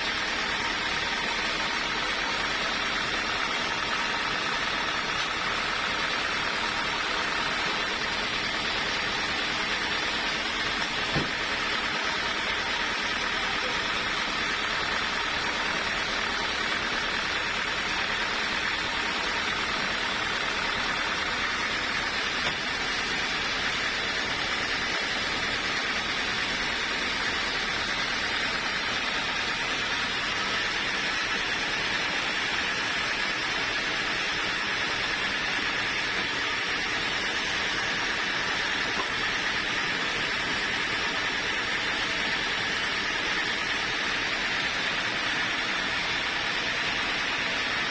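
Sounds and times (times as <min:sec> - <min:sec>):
sawmill machinery hissing: 0:00.0 - 0:47.9.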